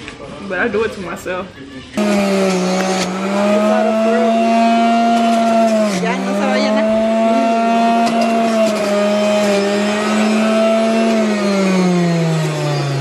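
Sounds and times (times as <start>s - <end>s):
juicer motor humming: 2.0s - 13.0s.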